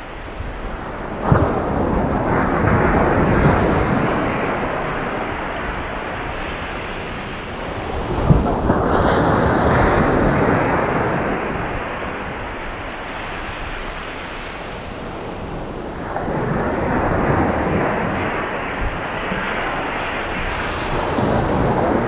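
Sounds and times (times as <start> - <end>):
sea waves breaking on a beach: 0.0 - 22.0.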